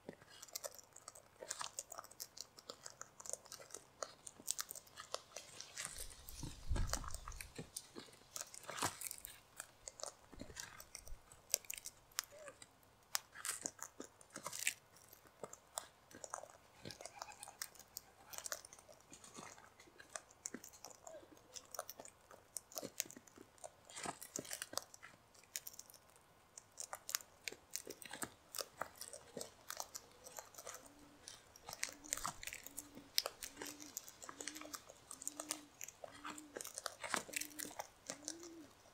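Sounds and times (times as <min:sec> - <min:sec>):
birds cracking seeds: 0:00.0 - 0:38.9.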